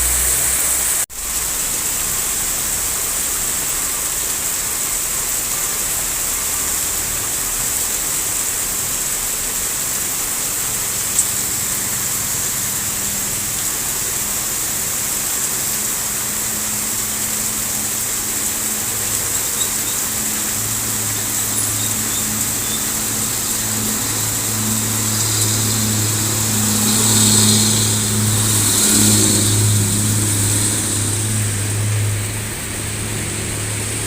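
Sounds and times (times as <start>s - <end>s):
steady hiss: 0.0s - 34.0s
truck diesel engine labouring: 4.4s - 34.0s.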